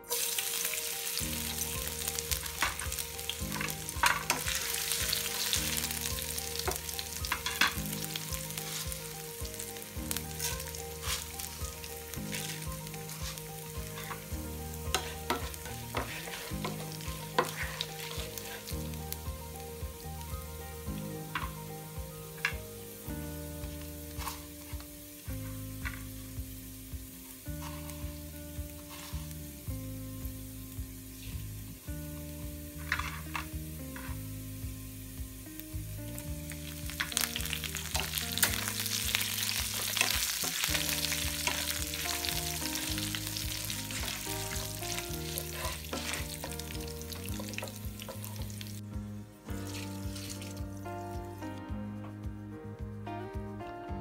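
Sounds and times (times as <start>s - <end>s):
food sizzling in oil: 0.0s - 50.9s.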